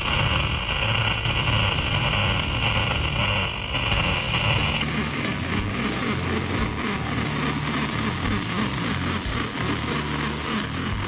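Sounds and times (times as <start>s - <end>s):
low hum: 0.0s - 11.0s
welding arc hissing: 0.0s - 11.0s.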